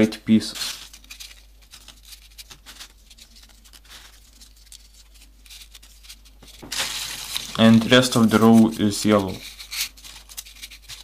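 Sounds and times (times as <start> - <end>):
paper rustling and ticking: 0.3 - 11.0.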